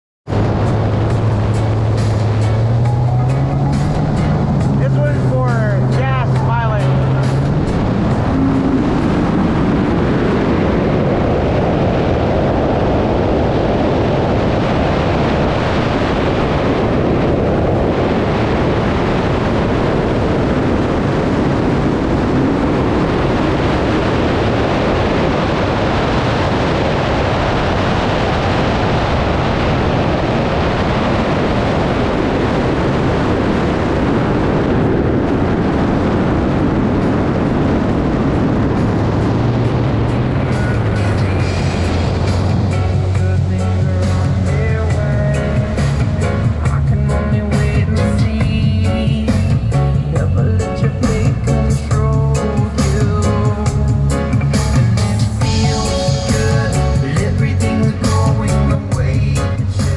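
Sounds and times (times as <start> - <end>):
jet ski engine roaring: 0.3 - 59.9
wind rushing: 0.3 - 59.9.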